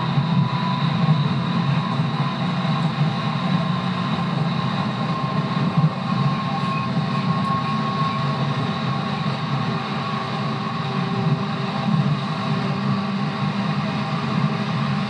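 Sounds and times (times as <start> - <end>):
traction motor whine: 0.0 - 15.0
train wheels rumbling on rails: 0.0 - 15.0.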